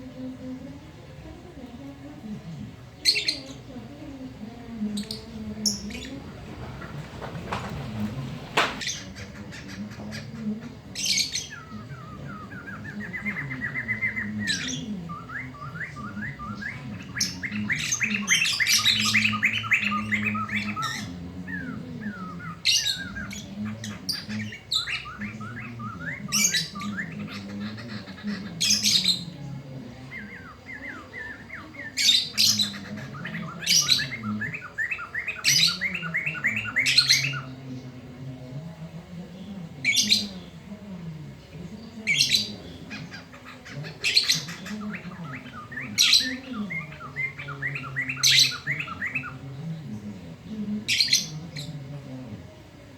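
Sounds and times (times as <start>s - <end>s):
laughingthrush singing rattling trills: 2.7s - 38.2s, 39.6s - 52.9s.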